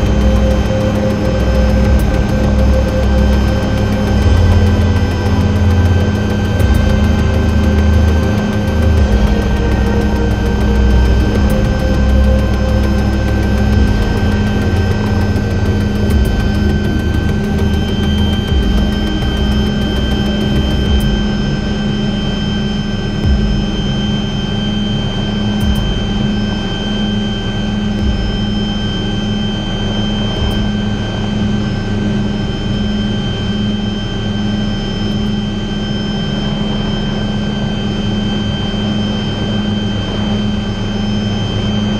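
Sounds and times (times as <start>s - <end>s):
helicopter rotor low drone: 0.0s - 41.9s
turbine engine high whine: 0.0s - 41.9s.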